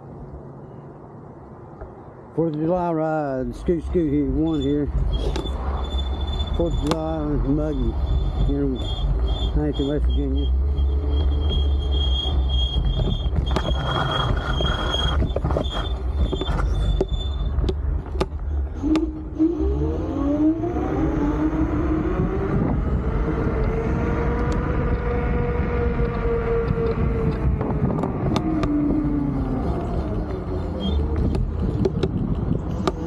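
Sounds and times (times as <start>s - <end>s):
wind rumble on microphone: 3.4s - 33.0s.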